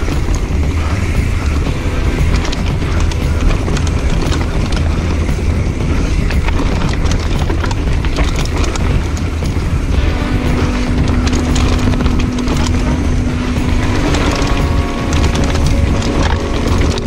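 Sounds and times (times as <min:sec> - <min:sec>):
bike rattling over rough ground: 0:00.0 - 0:17.0
steady low hum: 0:00.0 - 0:17.0
wind rushing over microphone: 0:00.0 - 0:17.0.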